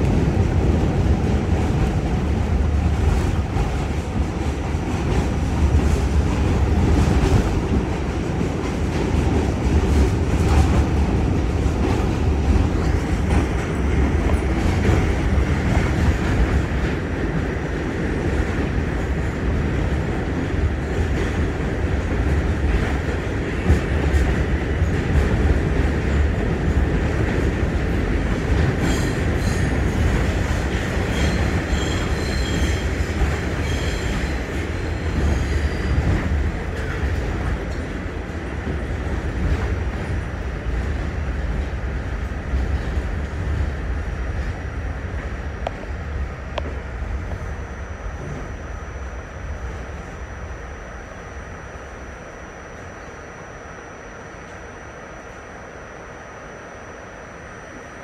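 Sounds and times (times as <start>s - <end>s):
subway car wheels rumbling: 0.0s - 58.0s.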